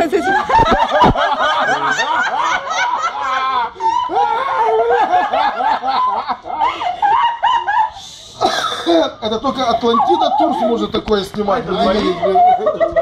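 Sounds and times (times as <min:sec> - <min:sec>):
women laughing: 0:00.0 - 0:10.9, 0:11.7 - 0:13.0.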